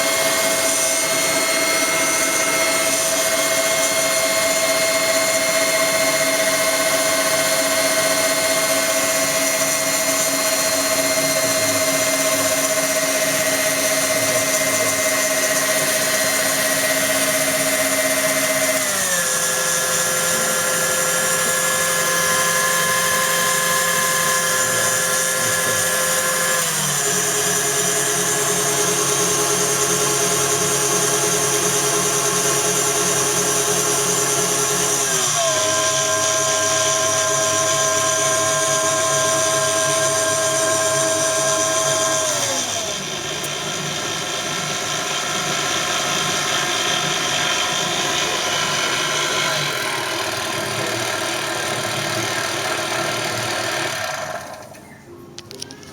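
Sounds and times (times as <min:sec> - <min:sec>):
stand mixer motor whine: 0:00.0 - 0:55.9.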